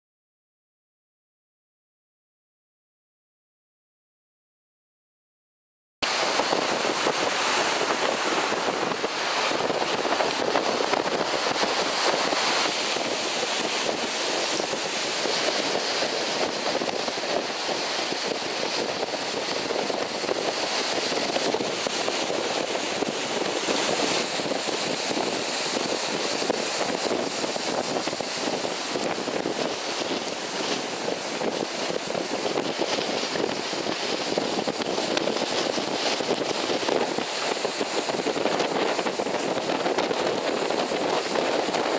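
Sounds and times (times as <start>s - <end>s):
sea surf breaking on breakwater: 6.0s - 41.9s.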